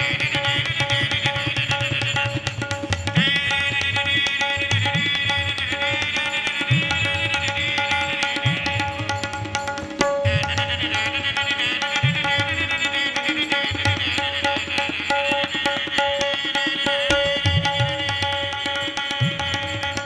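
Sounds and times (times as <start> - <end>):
shehnai melody: 0.0 - 20.0.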